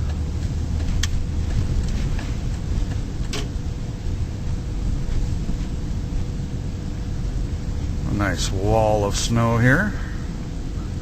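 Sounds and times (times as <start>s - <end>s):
car engine rumble in cabin: 0.0s - 11.0s.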